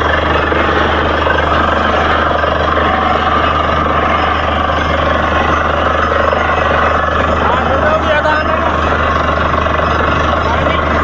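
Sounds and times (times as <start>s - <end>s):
drilling rig running: 0.0s - 11.0s.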